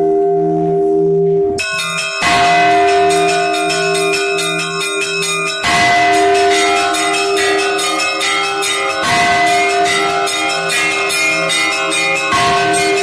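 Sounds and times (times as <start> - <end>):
heavy bell stroke: 0.0 - 13.0
large bells ringing hum: 0.0 - 13.0
small bells chiming quickly: 1.6 - 13.0.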